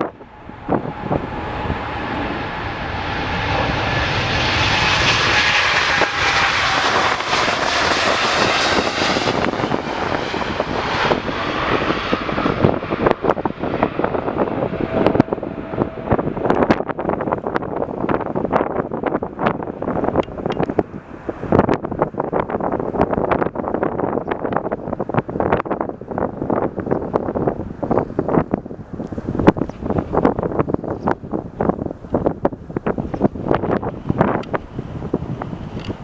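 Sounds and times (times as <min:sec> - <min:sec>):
jet airliner engines passing: 0:00.0 - 0:36.0
wind buffeting microphone: 0:00.0 - 0:36.0.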